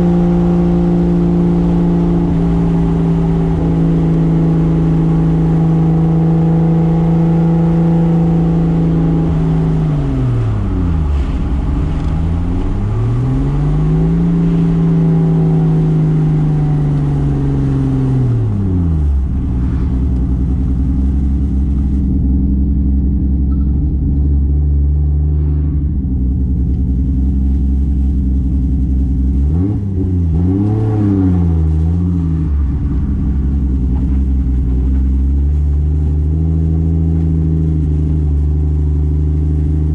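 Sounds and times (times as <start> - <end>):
car engine revving: 0.0 - 39.9
engine throttle blips: 0.0 - 39.9
road and wind noise: 0.0 - 39.9.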